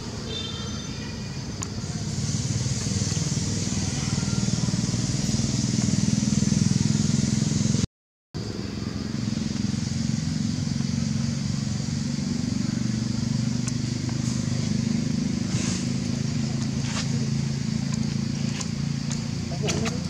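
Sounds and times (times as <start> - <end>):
vehicle engine rumble: 1.2 - 20.0.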